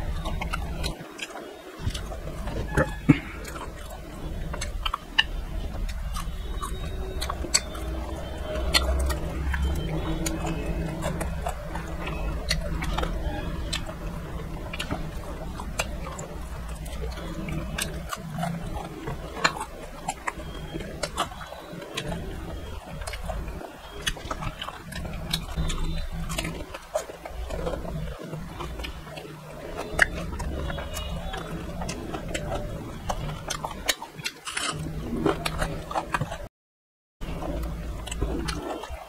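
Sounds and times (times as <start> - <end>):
man chewing and lip-smacking: 0.0 - 36.5, 37.2 - 39.0.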